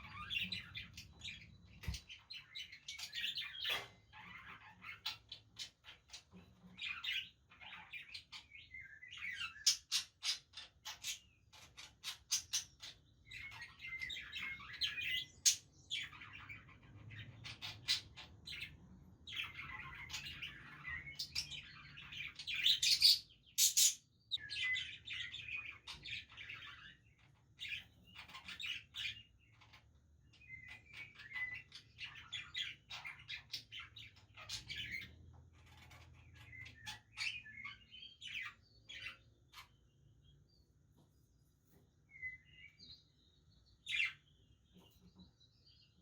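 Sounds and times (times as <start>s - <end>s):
budgerigars chirping and chattering: 0.0s - 40.4s, 42.1s - 46.0s.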